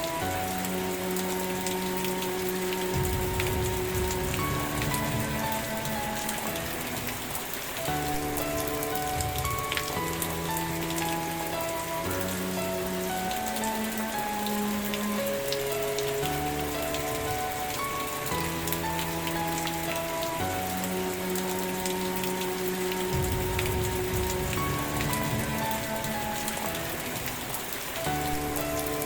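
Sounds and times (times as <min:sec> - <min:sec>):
soft melody of held notes: 0:00.0 - 0:29.0
steady rain: 0:00.0 - 0:29.0.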